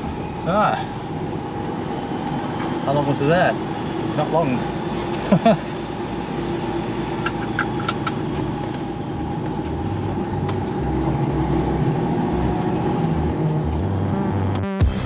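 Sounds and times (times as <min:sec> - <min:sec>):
truck diesel engine rumble: 0:00.0 - 0:15.0.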